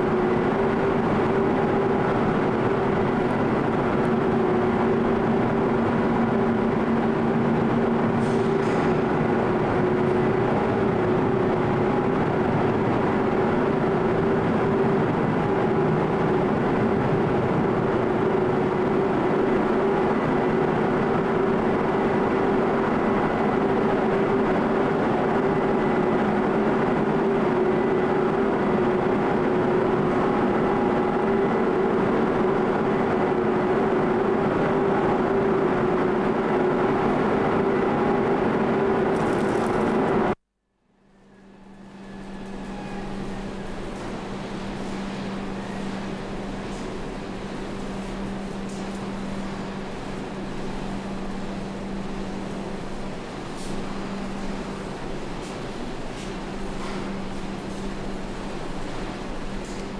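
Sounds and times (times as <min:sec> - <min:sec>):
constant hum: 0:00.0 - 0:59.9
ship engines droning: 0:00.0 - 0:59.9.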